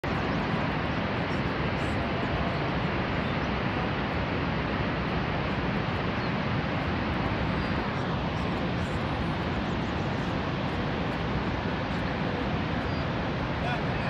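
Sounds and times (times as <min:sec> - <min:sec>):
churning river: 0:00.0 - 0:14.0
waterfall rushing: 0:00.1 - 0:14.0.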